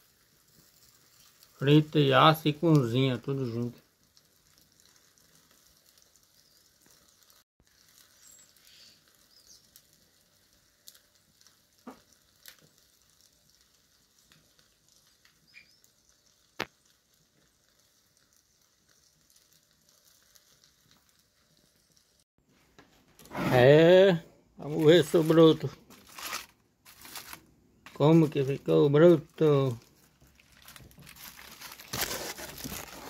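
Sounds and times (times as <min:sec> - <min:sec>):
fish sizzling in foil: 0:00.0 - 0:22.3, 0:23.1 - 0:33.0
fire crackling and popping: 0:00.0 - 0:33.0.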